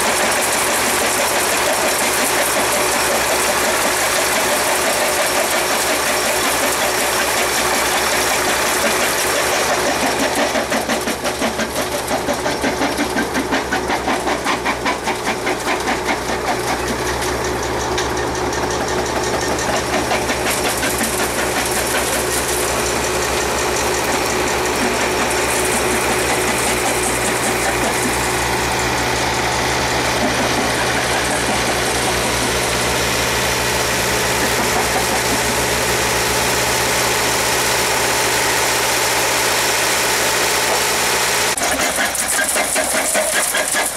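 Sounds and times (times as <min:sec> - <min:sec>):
diesel engine: 0:00.0 - 0:43.9
rock crusher running: 0:00.0 - 0:43.9.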